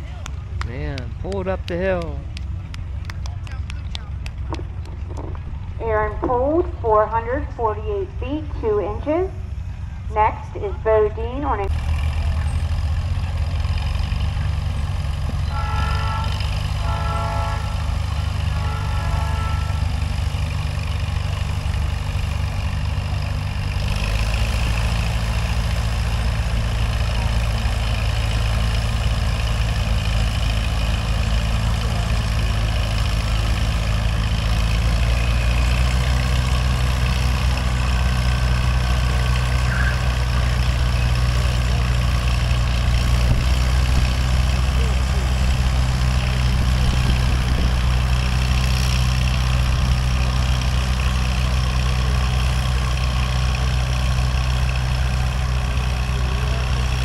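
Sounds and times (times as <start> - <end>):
tractor engine under heavy load: 0.0 - 57.0.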